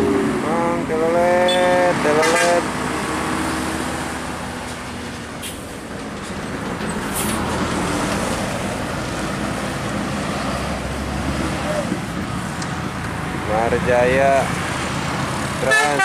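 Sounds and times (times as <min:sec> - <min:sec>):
bus diesel engine: 0:00.0 - 0:16.0
tyre and traffic noise: 0:00.0 - 0:16.0.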